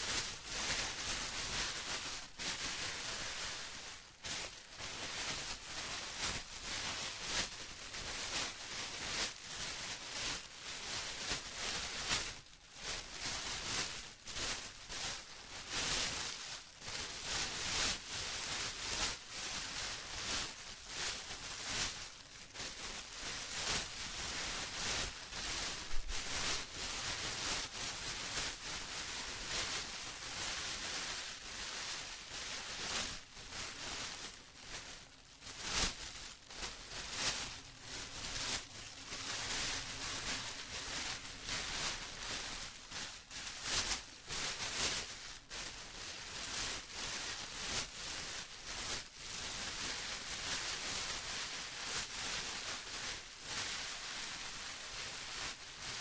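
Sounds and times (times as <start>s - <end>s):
plastic rustling and crinkling: 0.0s - 56.0s.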